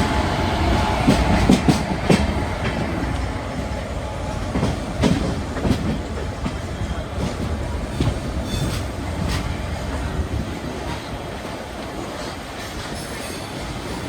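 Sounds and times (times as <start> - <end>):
train rumbling on track: 0.0 - 14.0
wheels clacking over rail joints: 0.0 - 14.0.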